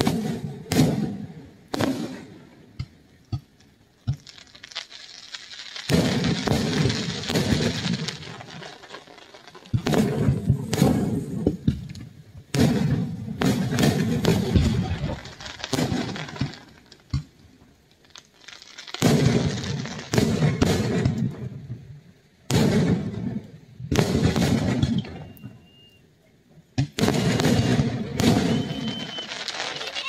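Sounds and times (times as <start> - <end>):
fireworks shells bursting: 0.0 - 21.6, 23.9 - 26.0, 26.8 - 30.0.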